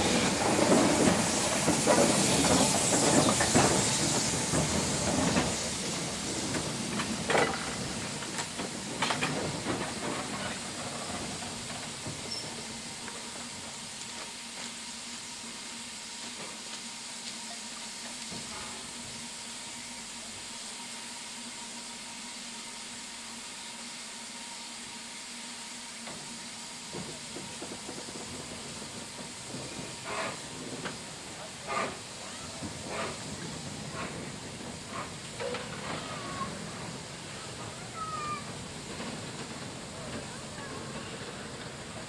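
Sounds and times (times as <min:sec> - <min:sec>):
steam hissing: 0:00.0 - 0:42.0.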